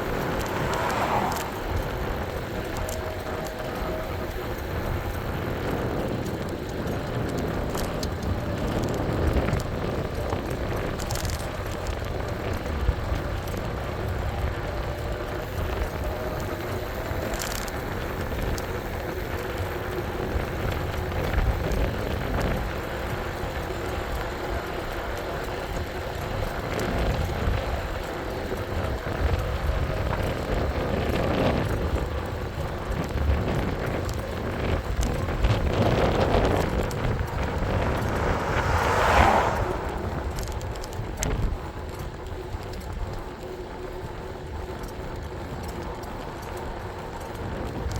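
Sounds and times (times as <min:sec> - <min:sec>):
tyre noise on road: 0:00.0 - 0:47.9
wind buffeting microphone: 0:00.0 - 0:47.9.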